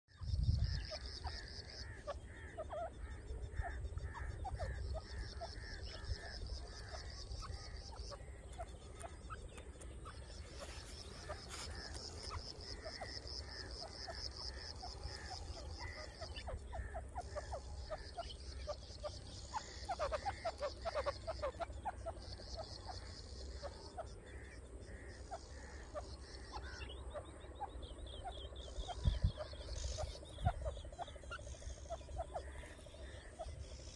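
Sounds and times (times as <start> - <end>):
francolin calling: 0.1 - 33.9.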